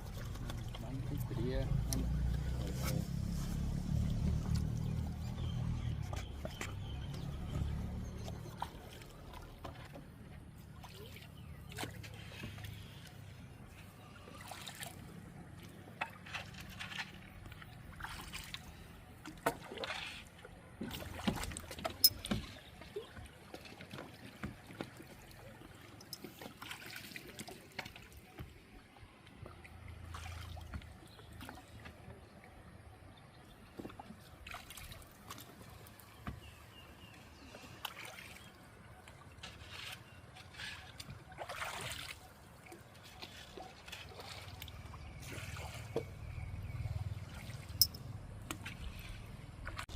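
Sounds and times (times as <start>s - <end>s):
water trickling and splashing: 0.0s - 49.9s.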